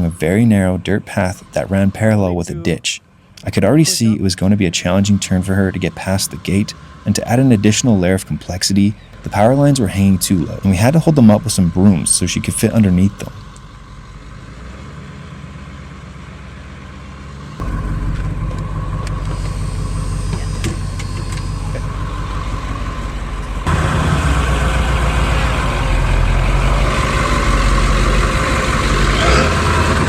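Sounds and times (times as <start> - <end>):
diesel bus engine running: 0.0 - 30.0.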